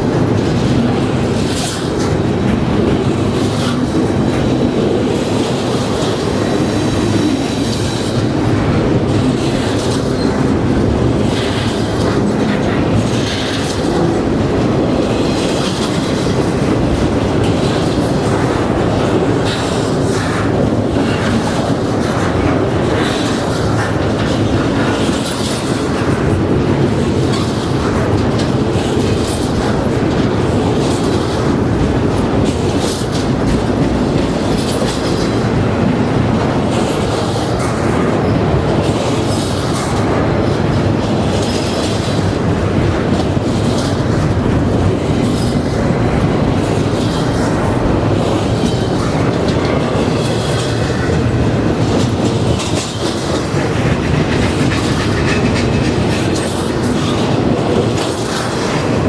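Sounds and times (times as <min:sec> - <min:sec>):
freight train cars rolling past: 0:00.0 - 0:59.0
train wheels clicking over rail joints: 0:00.0 - 0:59.0.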